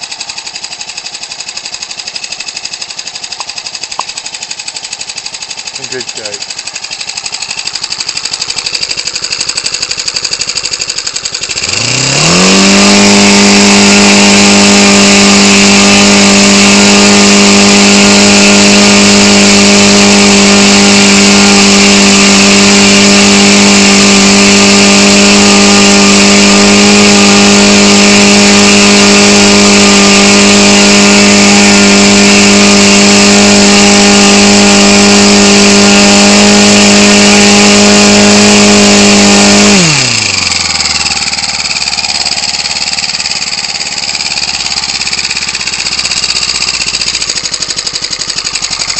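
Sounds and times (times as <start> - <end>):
engine driving propeller revving: 0.0 - 48.9.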